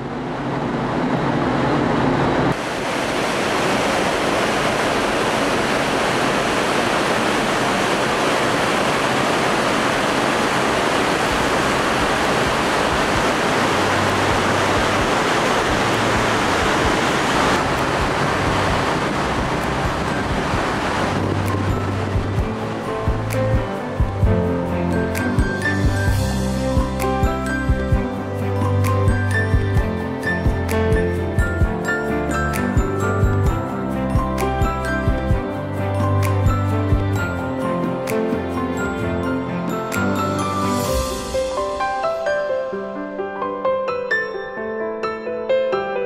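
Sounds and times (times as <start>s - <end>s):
sea water rushing in ship wake: 0.0s - 42.1s.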